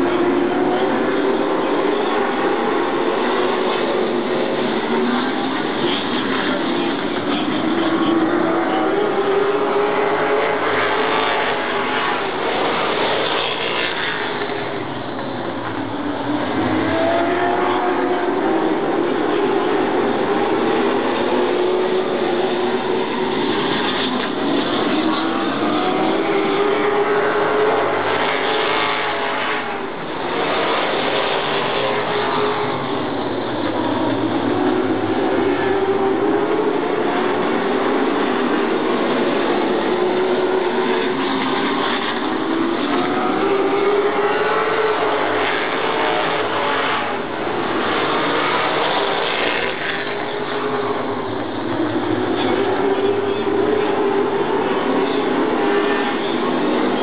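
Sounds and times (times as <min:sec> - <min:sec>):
racing car engines roaring: 0:00.0 - 0:57.0.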